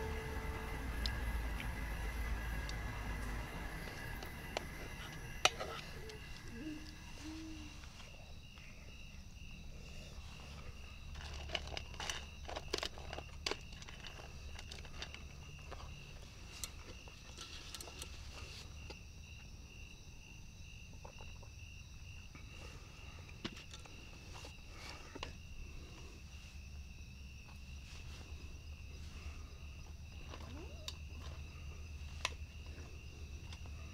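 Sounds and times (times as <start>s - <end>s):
night insects trilling: 0.0s - 33.9s.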